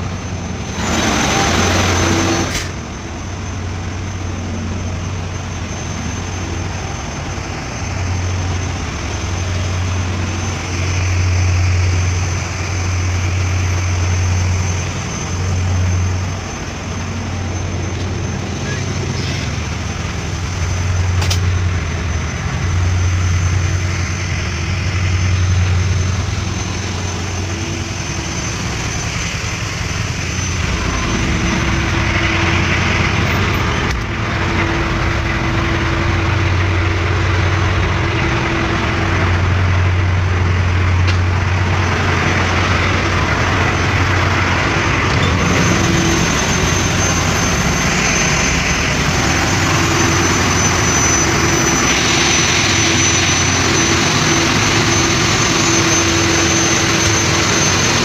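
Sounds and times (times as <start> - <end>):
diesel machinery drone: 0.0 - 58.0
thin high whine: 0.0 - 58.0.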